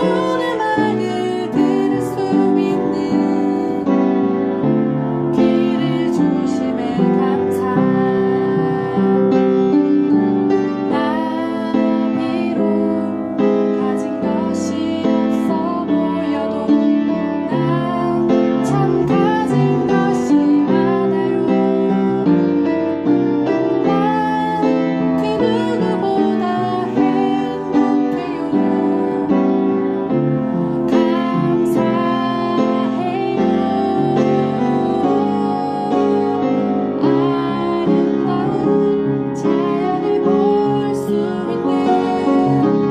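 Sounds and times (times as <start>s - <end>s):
gentle piano melody: 0.0s - 42.9s.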